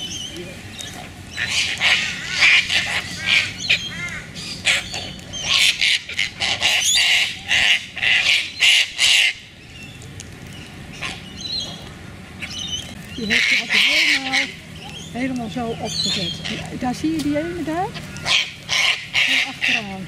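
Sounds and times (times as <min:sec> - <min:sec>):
cockatoos screeching: 0:00.0 - 0:17.1, 0:17.7 - 0:20.0.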